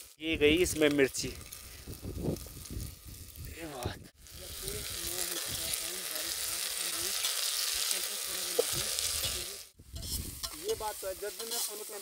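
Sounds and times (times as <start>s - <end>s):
onions sizzling in a pot: 0.0s - 12.0s.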